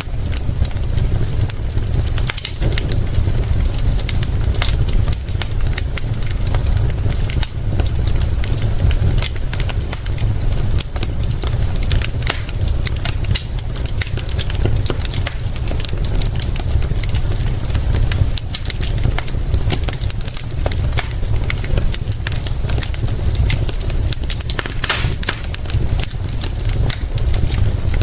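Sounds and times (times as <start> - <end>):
low rumble: 0.0 - 28.0
rain hiss: 0.0 - 28.0
wood fire crackling and popping: 0.0 - 28.0.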